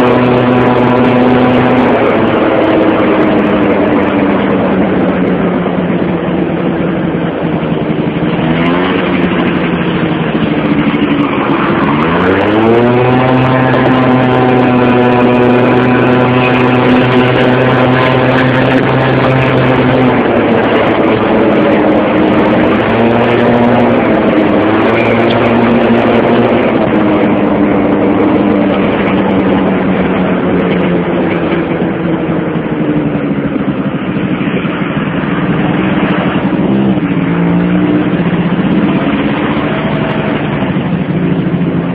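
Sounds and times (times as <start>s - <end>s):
motorcycle engine under load: 0.0s - 41.9s.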